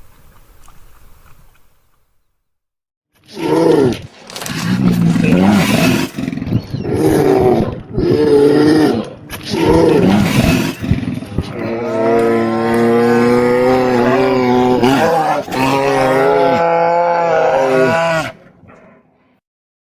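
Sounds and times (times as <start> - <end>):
bear calling: 3.3 - 19.3.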